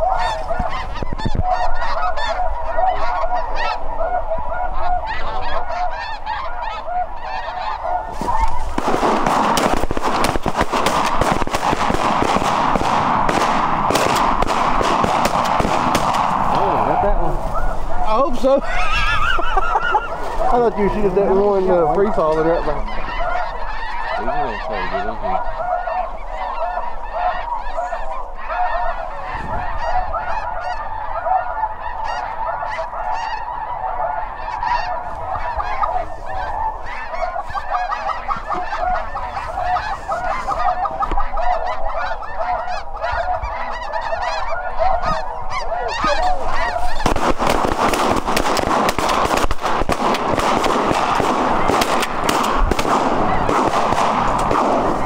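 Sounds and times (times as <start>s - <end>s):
snow geese honking: 0.0s - 55.0s.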